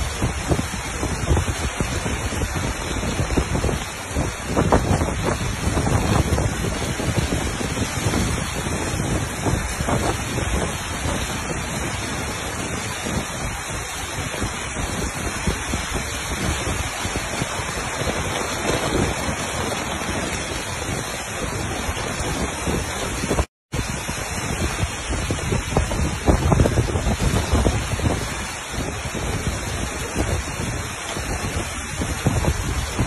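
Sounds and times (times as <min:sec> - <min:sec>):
heavy rain: 0:00.0 - 0:33.0
wind gusting against microphone: 0:00.0 - 0:33.0.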